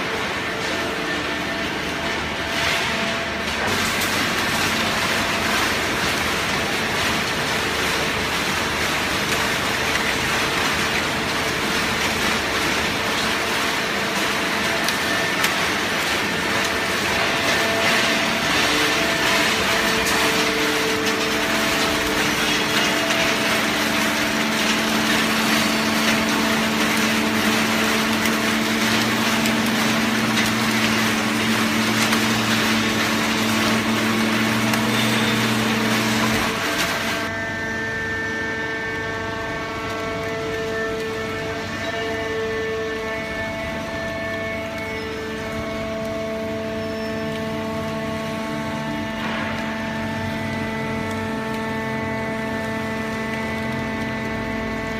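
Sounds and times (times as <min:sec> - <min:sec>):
deeper hum: 0:00.0 - 0:54.9
machine hum: 0:00.0 - 0:54.9.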